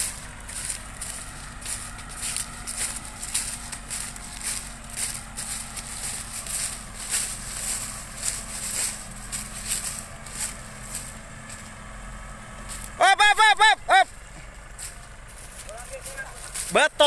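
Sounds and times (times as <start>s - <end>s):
footsteps crunching dry leaves: 0.0s - 13.0s, 14.6s - 17.0s
low engine hum: 0.0s - 17.0s.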